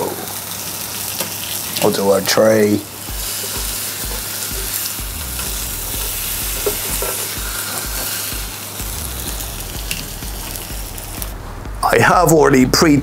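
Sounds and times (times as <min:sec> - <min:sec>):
steak sizzling in grill pan: 0:00.0 - 0:11.3.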